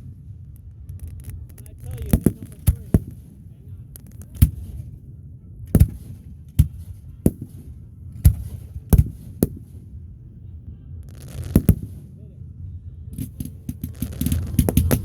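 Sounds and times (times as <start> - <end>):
fireworks booming: 0.0 - 12.2, 13.2 - 15.0.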